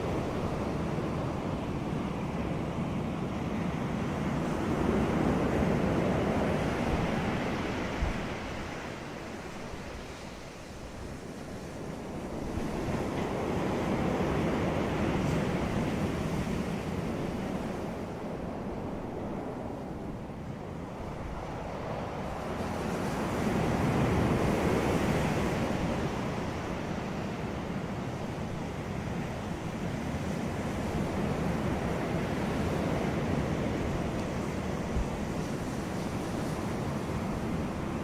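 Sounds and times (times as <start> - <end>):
sea waves washing onto beach: 0.0 - 38.0.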